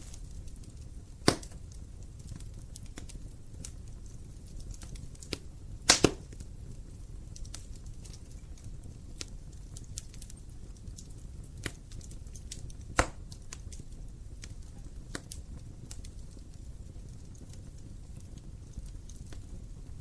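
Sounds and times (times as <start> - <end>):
fire crackling and popping: 0.0 - 20.0
wood fire burning: 0.0 - 20.0.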